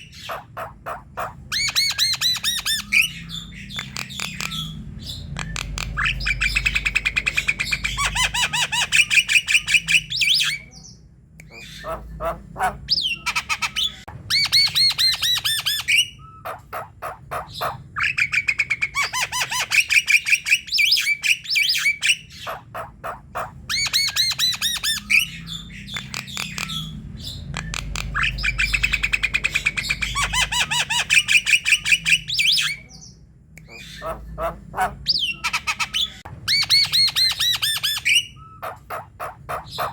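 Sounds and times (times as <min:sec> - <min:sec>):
bird harsh chattering calls: 0:00.0 - 0:39.9.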